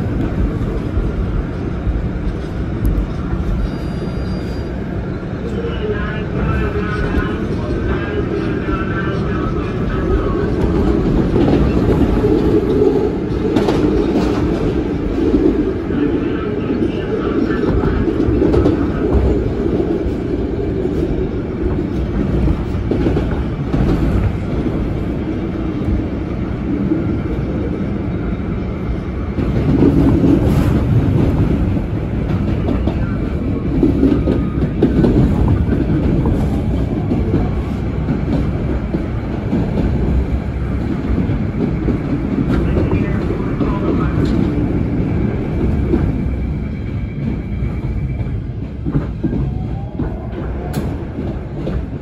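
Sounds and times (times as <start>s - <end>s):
subway train wheels rumbling on rail: 0.0s - 52.0s.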